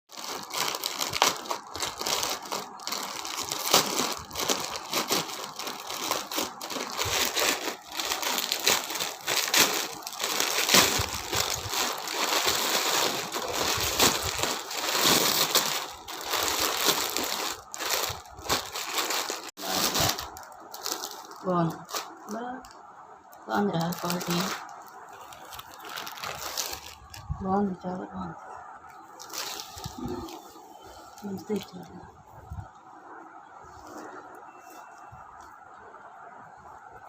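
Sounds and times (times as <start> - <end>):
packaging crinkling: 0.1 - 22.8, 23.4 - 27.5, 28.9 - 31.9.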